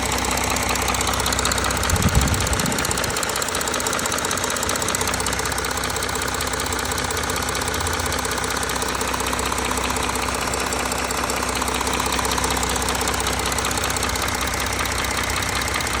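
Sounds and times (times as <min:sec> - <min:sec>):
diesel engine clattering: 0:00.0 - 0:16.0.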